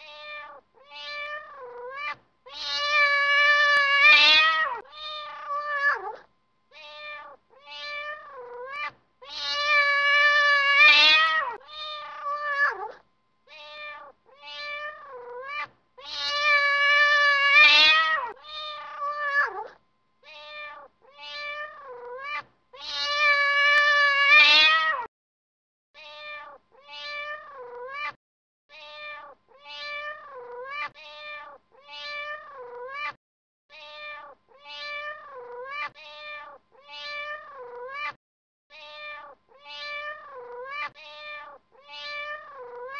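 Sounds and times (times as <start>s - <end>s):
cat meowing: 0.0s - 25.1s, 26.0s - 42.9s.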